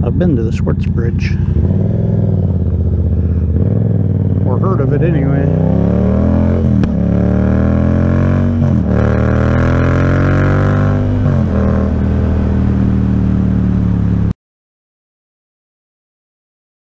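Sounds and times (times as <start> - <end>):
motorcycle engine accelerating: 0.0 - 14.4.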